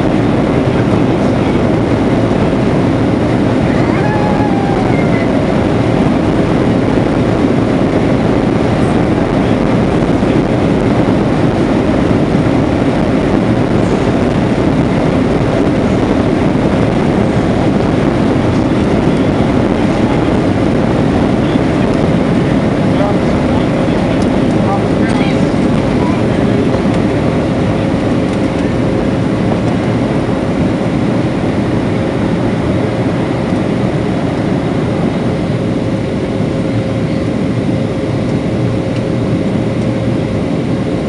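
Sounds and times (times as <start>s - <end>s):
airplane cabin rumble while taxiing: 0.0s - 41.0s.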